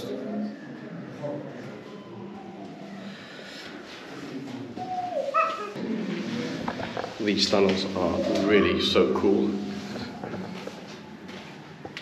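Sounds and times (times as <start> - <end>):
faint indistinct voices: 0.0 - 11.9.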